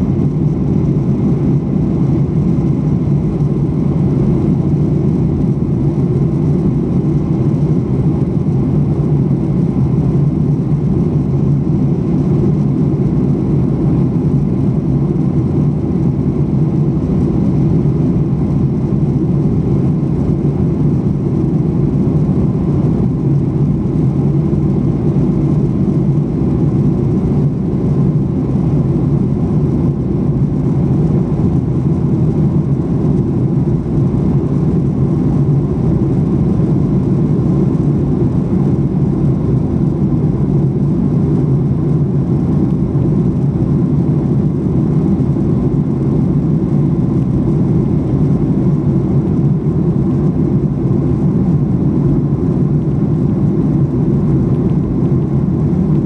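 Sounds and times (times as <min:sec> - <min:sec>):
airflow over fuselage: 0:00.0 - 0:56.0
airplane cabin engine rush: 0:00.0 - 0:56.0.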